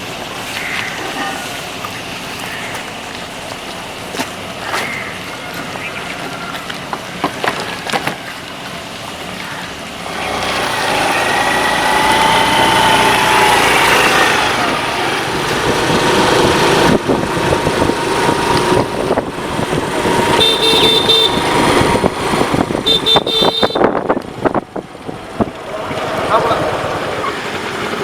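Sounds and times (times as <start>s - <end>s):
tyres on road: 0.0s - 28.0s
vehicle engines: 0.0s - 28.0s.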